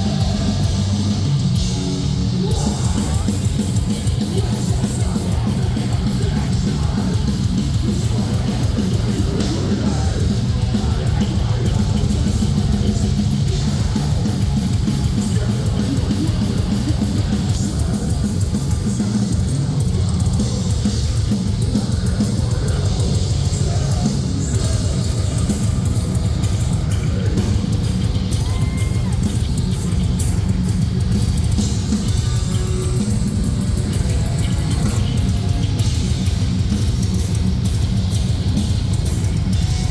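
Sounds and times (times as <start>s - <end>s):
metalcore band playing live: 0.0s - 39.9s.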